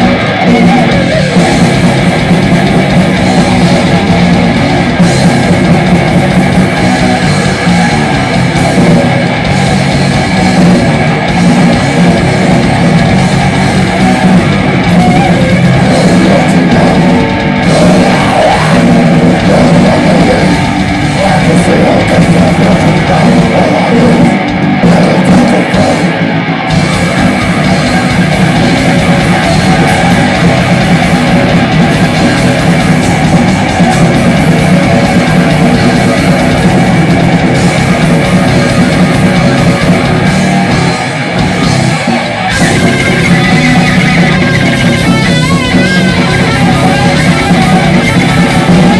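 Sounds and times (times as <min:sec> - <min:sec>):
bass guitar: 0:00.0 - 0:48.9
drum kit: 0:00.0 - 0:48.9
electric guitar: 0:00.0 - 0:48.9.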